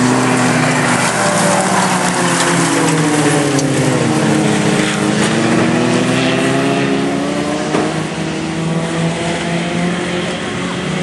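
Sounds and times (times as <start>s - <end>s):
racing car engines accelerating: 0.0s - 11.0s.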